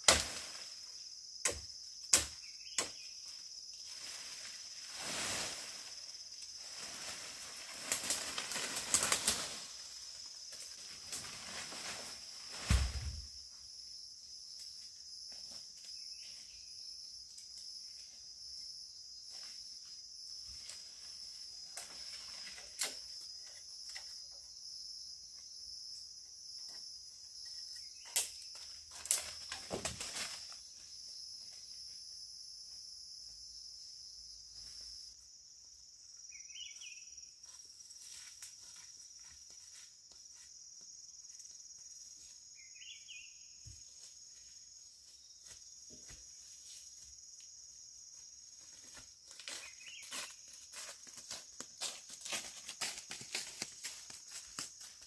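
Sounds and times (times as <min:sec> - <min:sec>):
insect chorus drone: 0:00.0 - 0:55.0.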